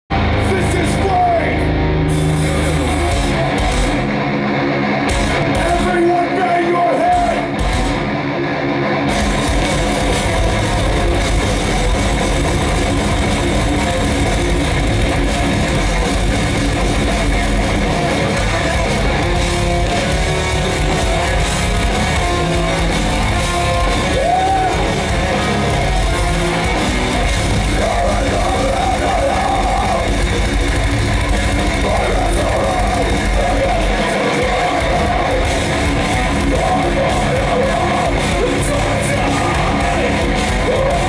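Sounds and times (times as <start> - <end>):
heavy metal band playing live: 0.1 - 41.0.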